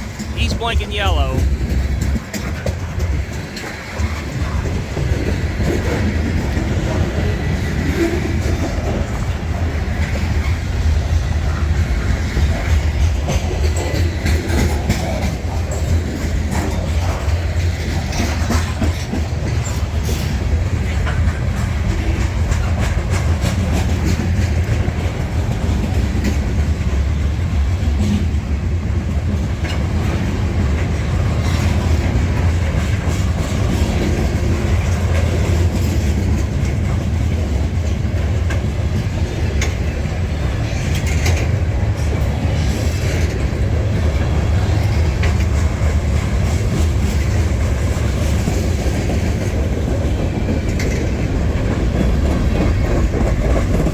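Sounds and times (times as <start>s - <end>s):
freight train rumbling past: 0.0s - 53.9s
wheels clacking over rail joints: 1.4s - 53.9s.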